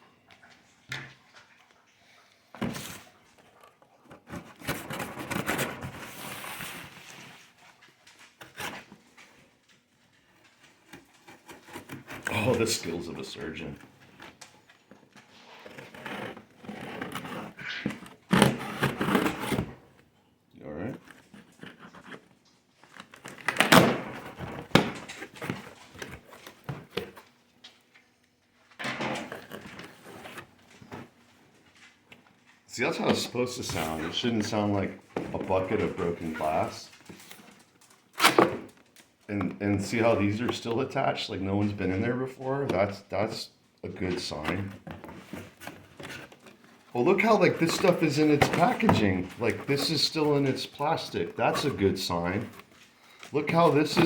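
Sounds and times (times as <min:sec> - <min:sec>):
cardboard scraping and rustling: 0:02.6 - 0:09.4, 0:10.4 - 0:20.0, 0:20.9 - 0:27.4, 0:29.0 - 0:32.2, 0:32.8 - 0:40.7, 0:43.9 - 0:54.0.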